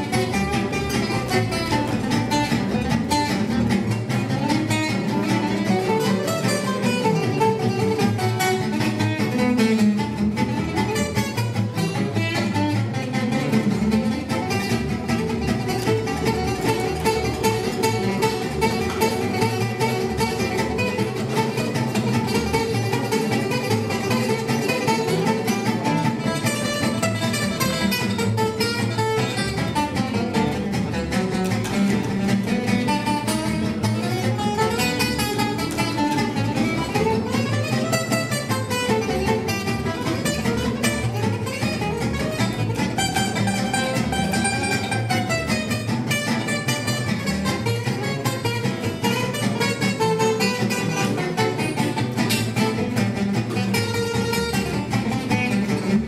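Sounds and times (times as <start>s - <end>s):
acoustic guitar melodic runs: 0.0s - 56.0s
plucked double bass: 0.0s - 56.0s.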